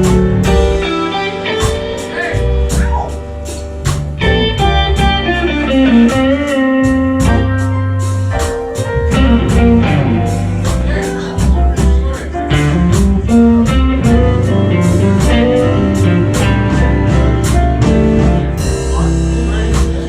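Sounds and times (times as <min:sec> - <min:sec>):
bass: 0:00.0 - 0:20.0
lead guitar: 0:00.0 - 0:20.0
steady drum beat: 0:00.0 - 0:20.0.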